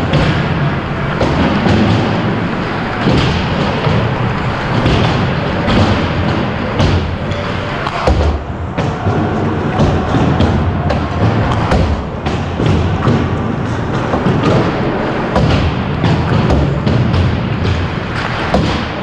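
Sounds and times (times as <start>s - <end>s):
players skating on ice: 0.0s - 19.0s
pucks and sticks hitting boards: 0.0s - 19.0s.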